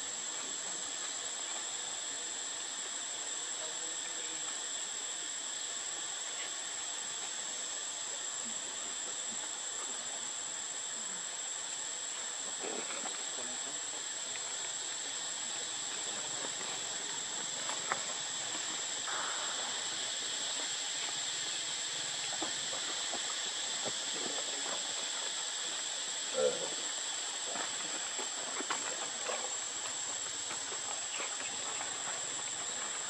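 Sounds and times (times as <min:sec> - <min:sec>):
insect chorus: 0:00.0 - 0:33.0.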